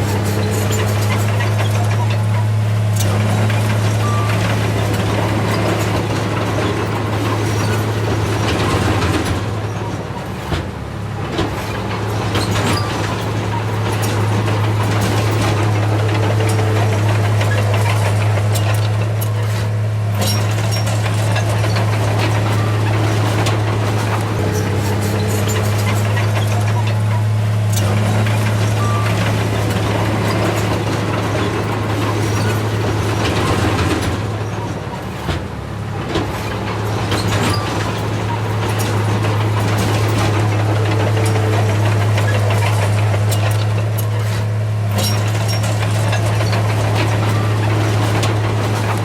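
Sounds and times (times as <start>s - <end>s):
heavy diesel machinery drone: 0.0s - 49.0s
metal clanks and knocks: 0.0s - 49.0s.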